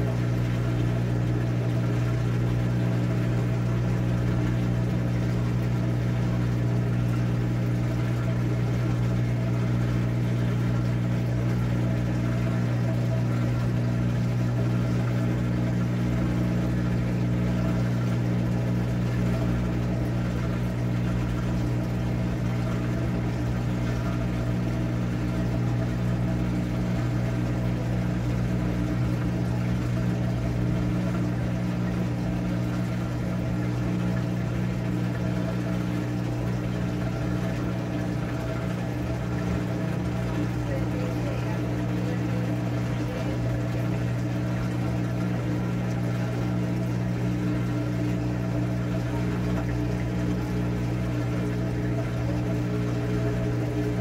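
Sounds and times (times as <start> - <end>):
washing machine electric hum: 0.0 - 54.0.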